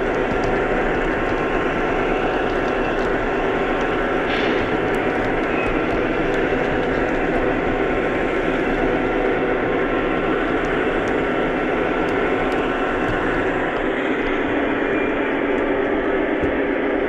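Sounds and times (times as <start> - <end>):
faint clicks: 0.0 - 16.6
model train running on track: 0.0 - 17.0.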